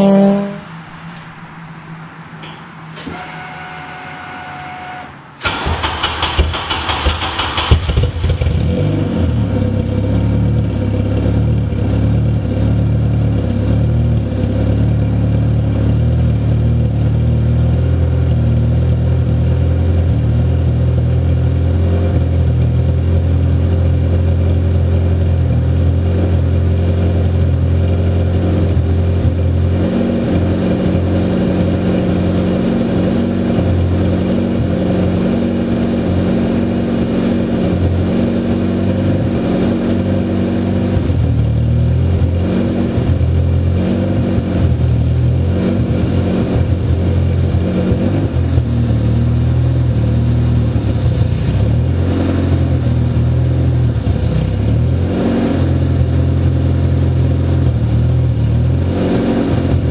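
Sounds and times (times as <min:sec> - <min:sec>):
car engine starting and idling: 0:00.0 - 0:59.9.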